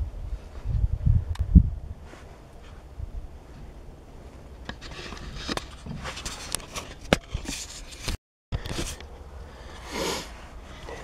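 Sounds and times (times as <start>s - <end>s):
handling rustles and scrapes: 2.0s - 11.0s.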